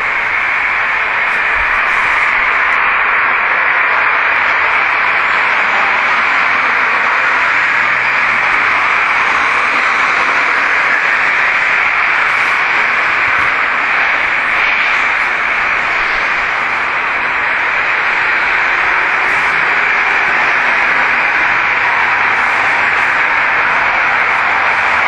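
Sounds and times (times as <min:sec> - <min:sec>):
steady loud hiss: 0:00.0 - 0:25.0.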